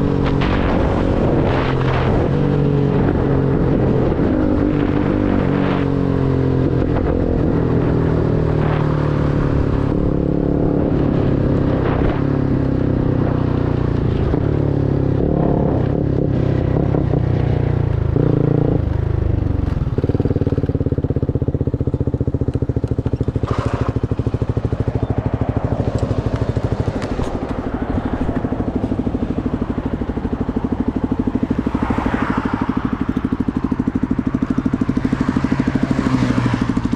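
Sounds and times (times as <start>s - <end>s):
motorcycle engine: 0.0s - 36.9s.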